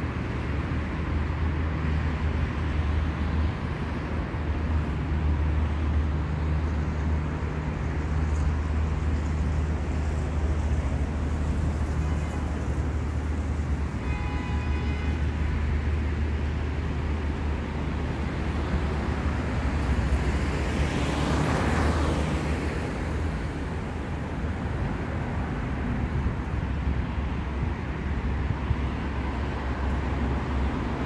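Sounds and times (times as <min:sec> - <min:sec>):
traffic rumble: 0:00.0 - 0:31.0.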